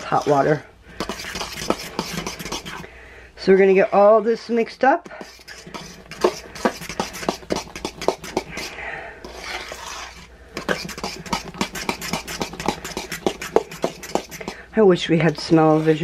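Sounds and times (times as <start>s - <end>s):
spoon scraping a steel bowl: 0.0s - 2.9s, 3.5s - 14.6s, 15.2s - 16.0s.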